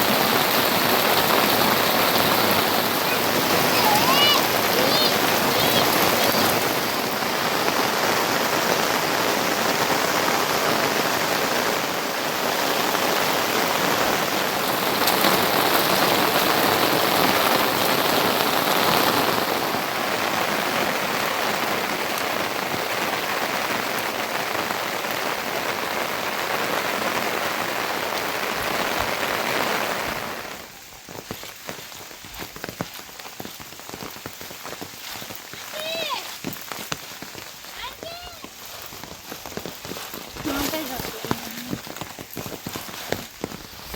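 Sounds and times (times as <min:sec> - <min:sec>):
heavy rain: 0:00.0 - 0:43.9
raindrops ticking: 0:00.0 - 0:43.9.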